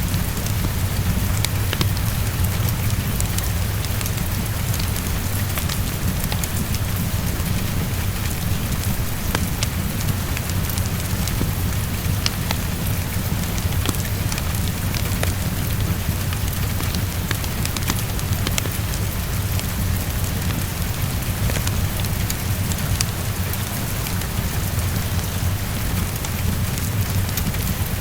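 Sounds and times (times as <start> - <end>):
constant low rumble: 0.0 - 28.0
crackling fireplace: 0.0 - 28.0
heavy rain tapping on window: 0.0 - 28.0.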